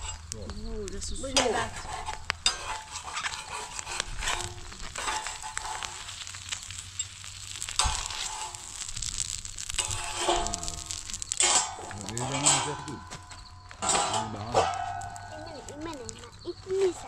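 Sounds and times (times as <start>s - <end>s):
egg frying on griddle: 0.0s - 17.0s
fire crackling: 0.0s - 17.0s
metal spatula scraping griddle: 1.2s - 13.2s, 13.8s - 17.0s.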